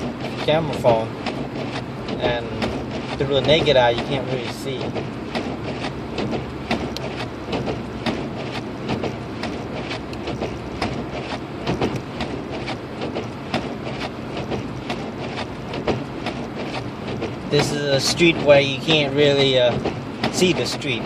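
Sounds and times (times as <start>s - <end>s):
car road rumble inside cabin: 0.0s - 21.0s.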